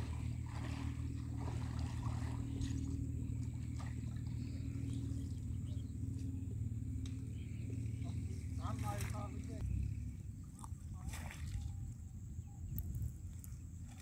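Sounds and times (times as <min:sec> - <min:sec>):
river water splashing: 0:00.0 - 0:12.0
steady low hum: 0:00.0 - 0:14.0.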